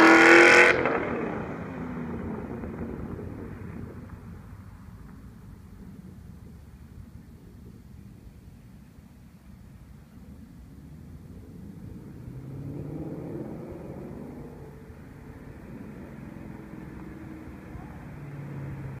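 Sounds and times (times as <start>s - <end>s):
deep car exhaust rumble: 0.0s - 19.0s.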